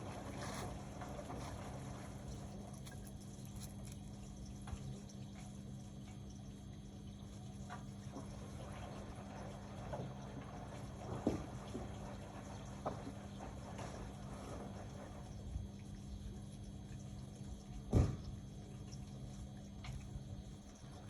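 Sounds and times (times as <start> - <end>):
washing machine running: 0.0 - 21.0
water sloshing in drum: 0.0 - 21.0.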